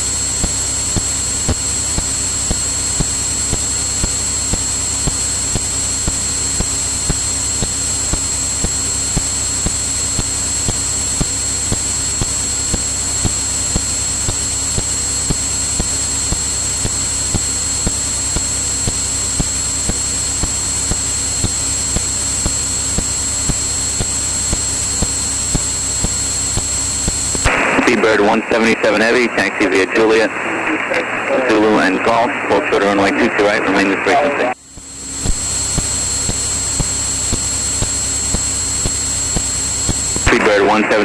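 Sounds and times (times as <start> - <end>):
aircraft engine drone: 0.0 - 41.0
high-pitched electrical whine: 0.0 - 41.0.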